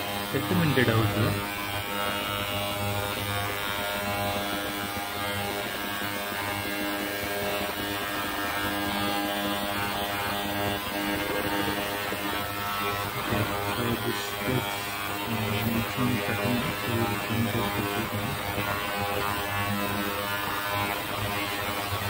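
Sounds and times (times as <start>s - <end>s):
ultrasonic cleaner buzzing and hissing: 0.0s - 22.0s.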